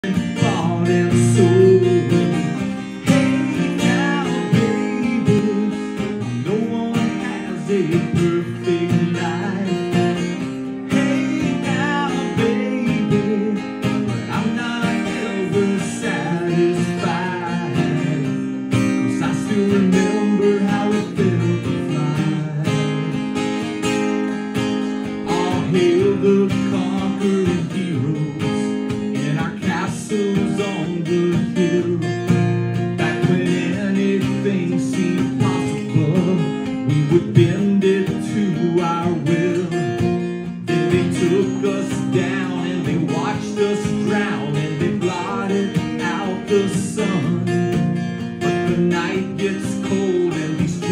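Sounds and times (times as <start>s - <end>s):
acoustic guitar strumming: 0.0s - 50.9s
man singing: 0.0s - 50.9s.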